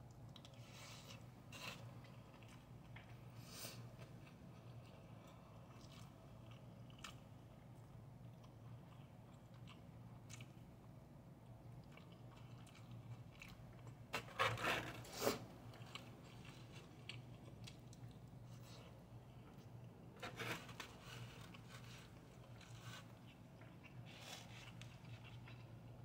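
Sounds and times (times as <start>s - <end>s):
person chewing food: 0.0s - 14.1s, 15.4s - 26.0s.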